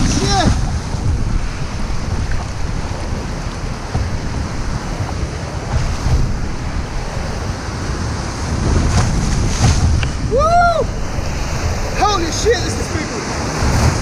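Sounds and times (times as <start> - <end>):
surf breaking: 0.0 - 14.0
wind buffeting microphone: 0.0 - 14.0.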